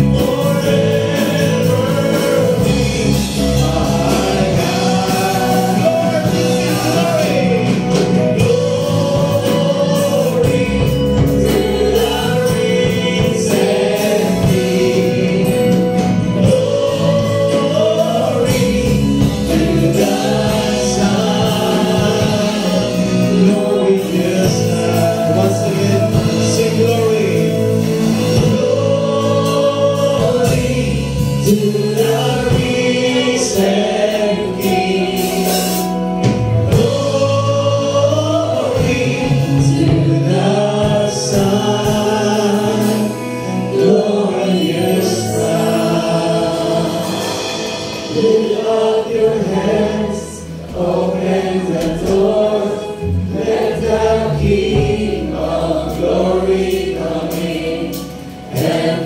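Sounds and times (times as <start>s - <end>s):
drums: 0.0s - 59.0s
electric guitar: 0.0s - 59.0s
keyboard: 0.0s - 59.0s
many voices singing together: 0.0s - 59.0s.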